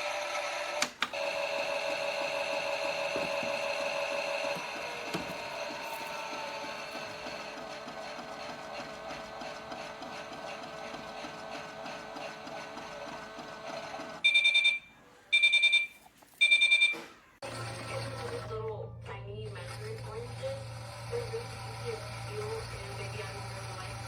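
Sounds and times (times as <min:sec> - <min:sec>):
toy washing machine whirring and rattling: 0:00.0 - 0:14.7, 0:17.4 - 0:18.6, 0:19.5 - 0:24.0.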